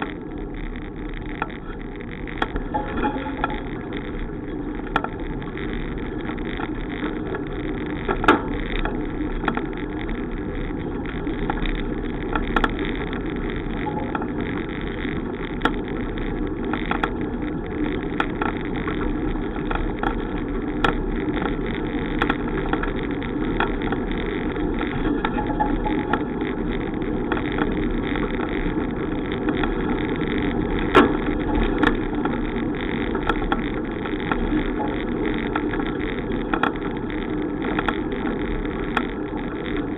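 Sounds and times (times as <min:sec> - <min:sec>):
bicycle rolling: 0:00.0 - 0:39.9
sharp clicks and knocks: 0:00.0 - 0:39.9.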